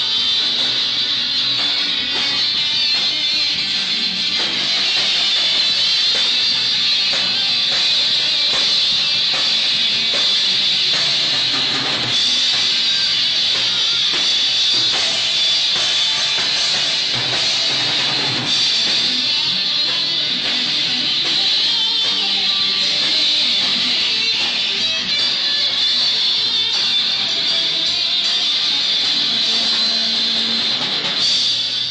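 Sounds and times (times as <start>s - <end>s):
live rock band: 0.0s - 31.9s.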